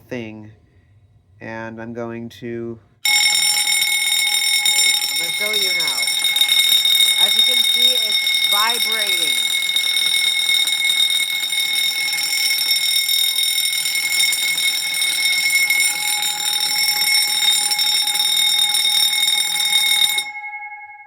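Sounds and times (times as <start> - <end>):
fire alarm bell ringing: 3.0 - 21.0.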